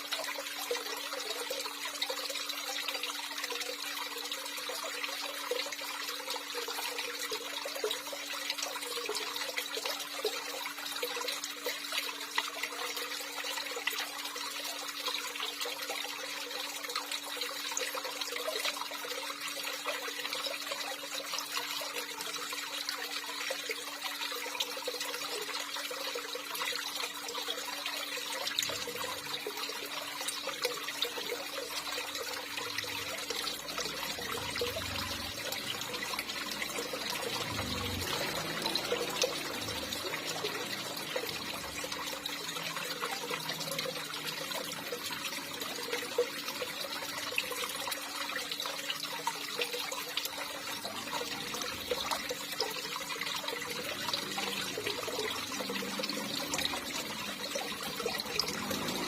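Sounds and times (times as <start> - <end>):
running water pouring: 0.0 - 59.0.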